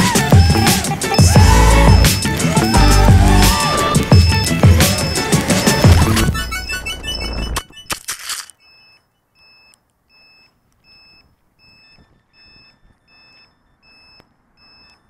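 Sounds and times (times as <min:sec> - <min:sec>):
short high beeps: 0:01.5 - 0:15.0.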